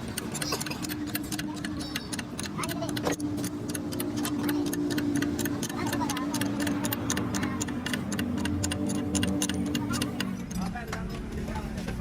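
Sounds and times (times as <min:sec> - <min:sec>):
tractor diesel engine running: 0:00.0 - 0:11.4.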